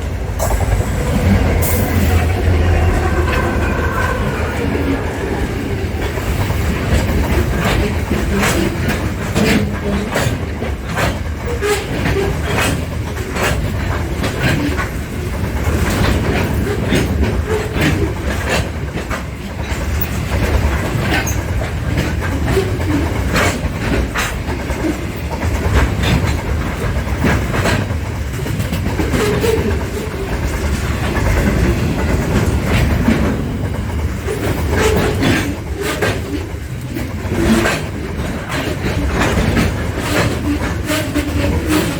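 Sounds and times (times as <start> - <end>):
train rumbling on rails: 0.0 - 41.9
wheels clicking over rail joints: 0.0 - 41.9.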